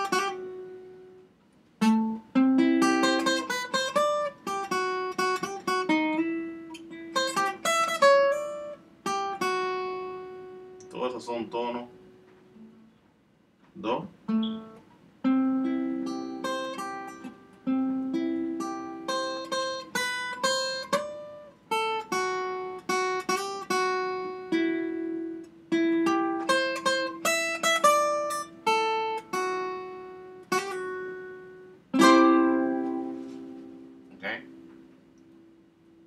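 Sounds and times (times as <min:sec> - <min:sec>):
acoustic-electric guitar lead lines: 0:00.0 - 0:13.0, 0:13.6 - 0:36.0.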